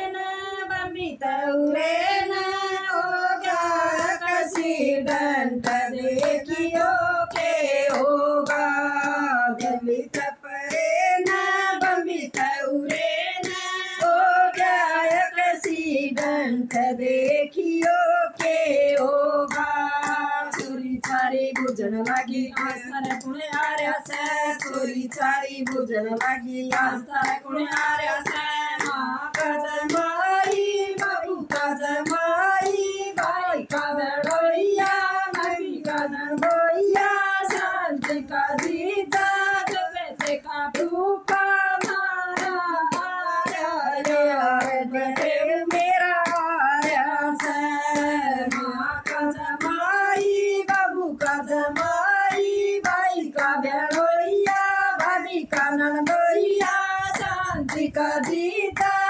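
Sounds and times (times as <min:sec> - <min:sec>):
women singing in unison: 0:00.0 - 0:59.0
hand claps: 0:01.6 - 0:59.0.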